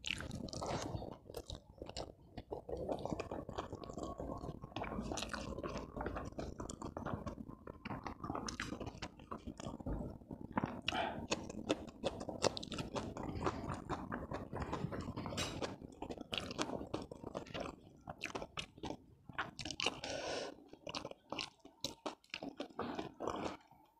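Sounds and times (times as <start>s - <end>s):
wet mouth sounds: 0.0s - 23.8s
person chewing food: 0.0s - 23.9s.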